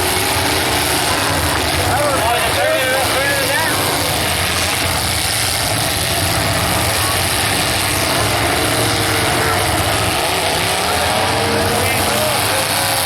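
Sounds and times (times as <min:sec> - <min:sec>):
car engines running together: 0:00.0 - 0:13.0.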